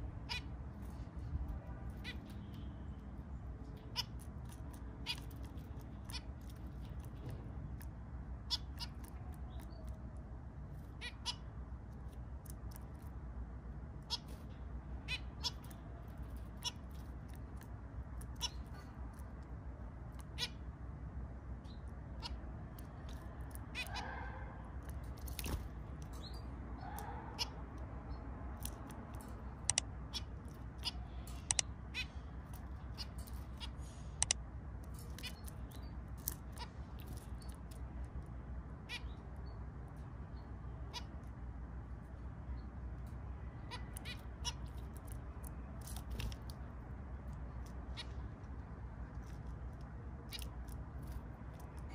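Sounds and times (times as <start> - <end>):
steady low hum: 0.0 - 51.9
finches chirping: 0.2 - 13.0, 14.0 - 20.7, 21.6 - 37.9, 38.8 - 41.3, 43.6 - 46.7.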